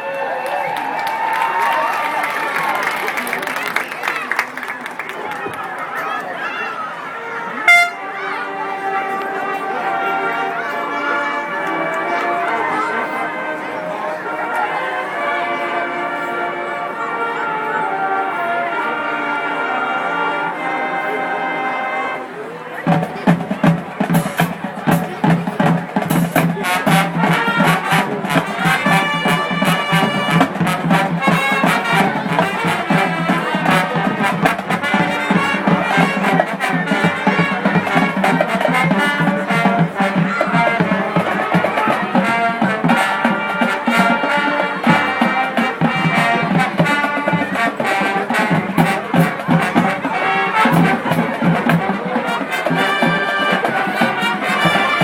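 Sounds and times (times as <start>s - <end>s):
marching band playing swing: 1.0s - 55.0s.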